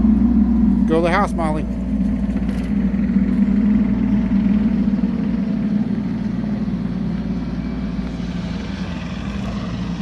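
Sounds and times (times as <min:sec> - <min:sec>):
excavator engine running: 0:00.0 - 0:10.0.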